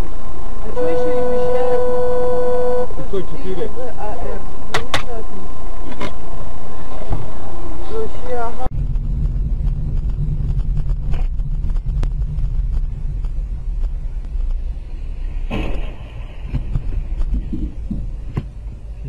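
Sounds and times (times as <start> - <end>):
car rumbling on the move: 0.0 - 19.0.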